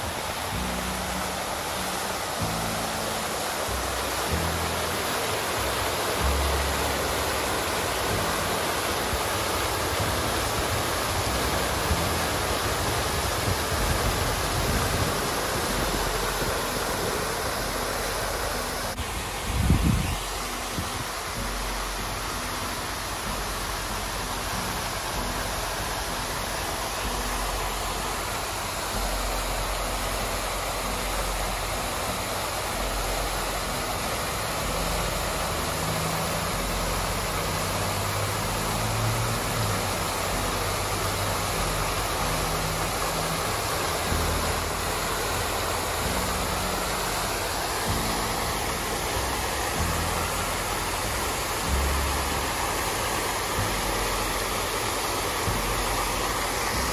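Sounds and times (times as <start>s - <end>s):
fountain water splashing: 0.0s - 56.9s.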